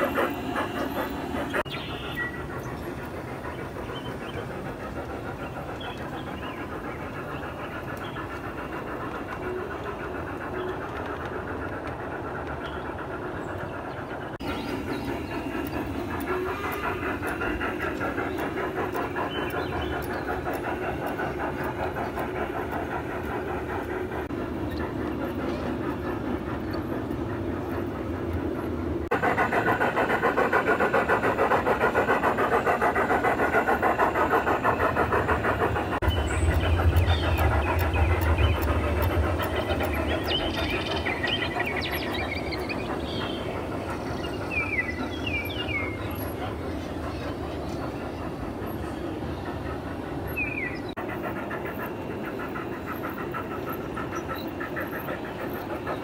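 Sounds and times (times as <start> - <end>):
model steam train chuffing: 0.0 - 56.0
wheels rumbling on track: 0.0 - 56.0.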